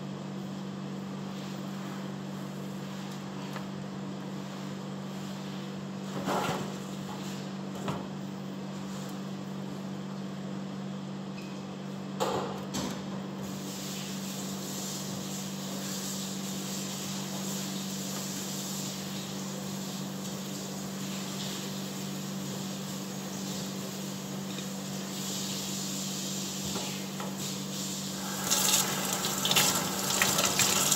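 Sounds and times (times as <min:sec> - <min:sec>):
kitchen equipment hum: 0:00.0 - 0:30.9.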